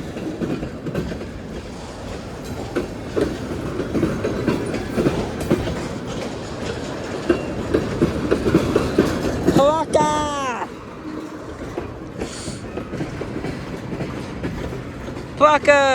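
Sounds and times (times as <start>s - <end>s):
freight train rumbling past: 0.0s - 15.9s
wheels clacking over rail joints: 0.0s - 15.9s.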